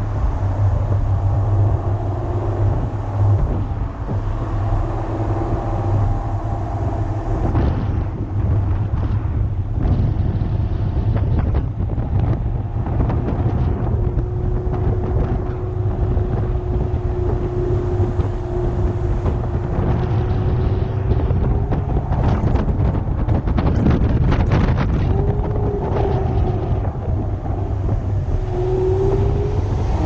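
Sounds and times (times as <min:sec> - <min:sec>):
car engine and road rumble: 0:00.0 - 0:30.0
wind noise on microphone: 0:00.0 - 0:30.0.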